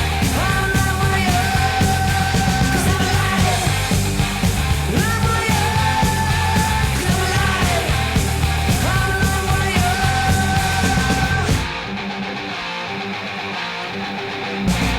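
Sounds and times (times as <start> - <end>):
voices singing or yelling: 0.0 - 13.0
loud rock music: 0.0 - 14.9.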